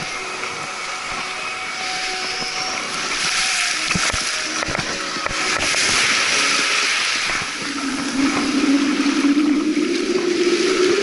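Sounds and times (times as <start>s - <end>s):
surf washing over sand: 0.0s - 11.0s.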